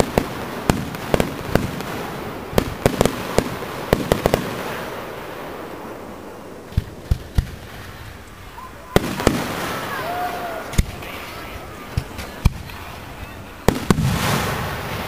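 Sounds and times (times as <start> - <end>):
firework crackle: 0.0 - 15.0.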